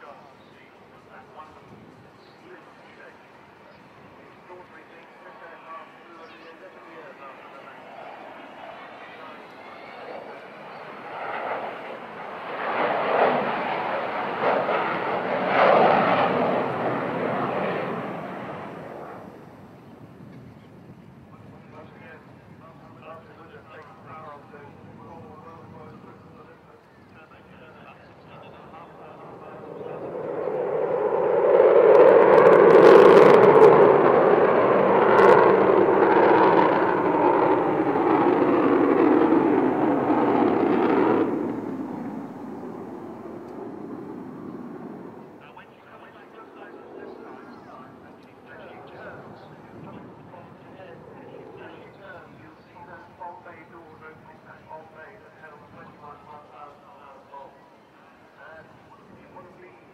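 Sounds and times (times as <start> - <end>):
jet engines roaring: 0.0 - 20.1, 22.2 - 57.3.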